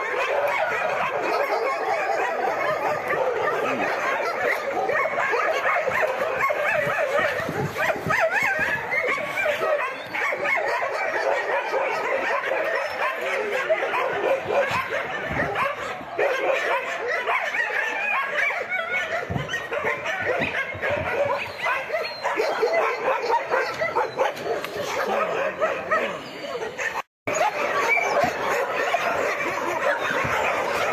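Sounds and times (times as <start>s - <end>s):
dogs barking and yelping: 0.0s - 30.9s.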